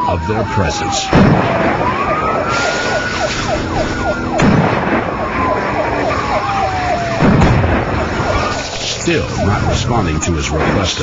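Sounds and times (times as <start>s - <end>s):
engine and road noise: 0.0s - 11.0s
police siren wailing: 0.0s - 11.0s
siren rapid yelp: 0.0s - 11.0s.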